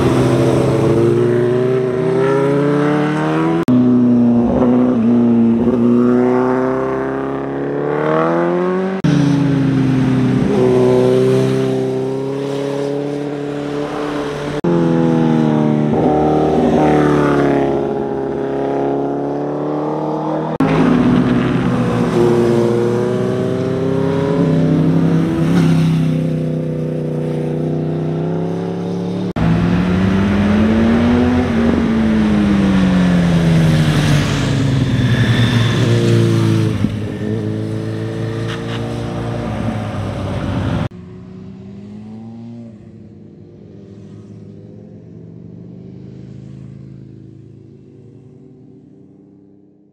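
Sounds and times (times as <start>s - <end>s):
motorcycle engines accelerating: 0.0s - 48.8s.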